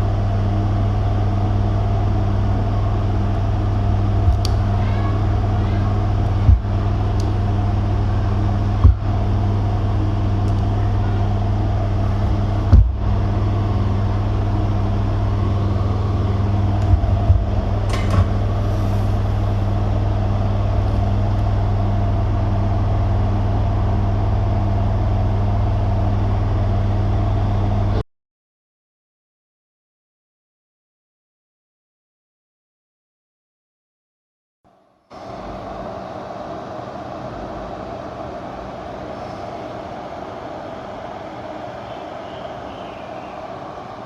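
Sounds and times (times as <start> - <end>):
low electrical hum: 0.0 - 28.0, 35.0 - 44.0.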